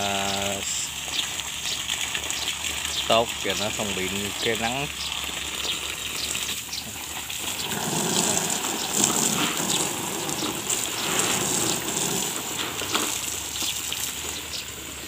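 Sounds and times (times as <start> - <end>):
water jet splashing onto soil: 0.0 - 15.0.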